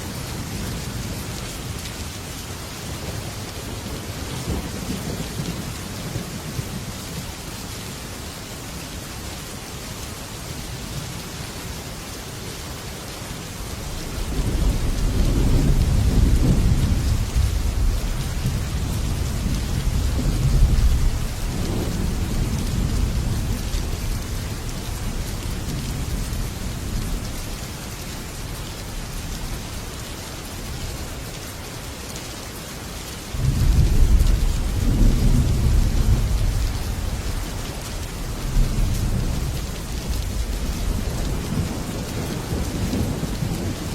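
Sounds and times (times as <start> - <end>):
heavy rain on a metal roof: 0.0 - 43.9.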